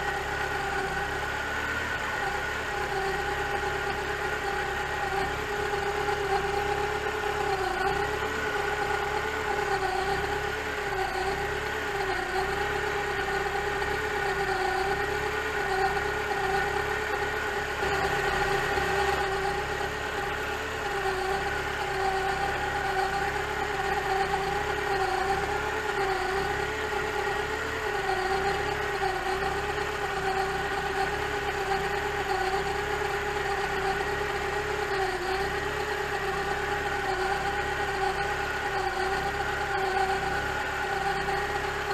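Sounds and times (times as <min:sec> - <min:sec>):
car engine idling with whine: 0:00.0 - 0:41.9.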